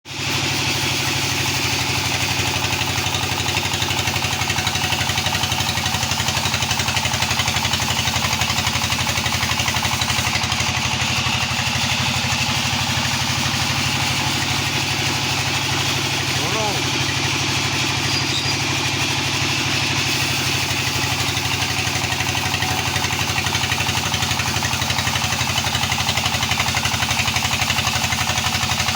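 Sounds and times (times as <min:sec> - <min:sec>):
small engine running: 0:00.1 - 0:28.9.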